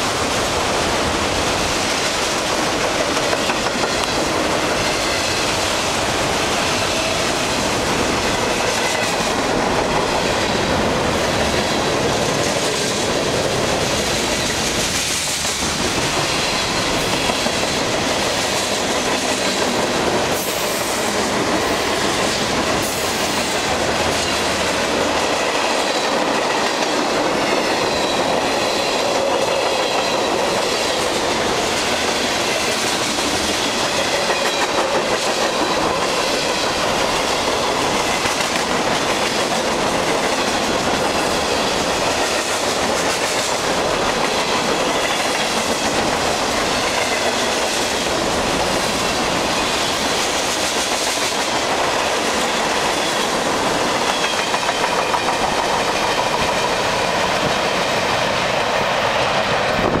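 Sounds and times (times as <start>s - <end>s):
freight train wheels clacking: 0.0s - 60.0s.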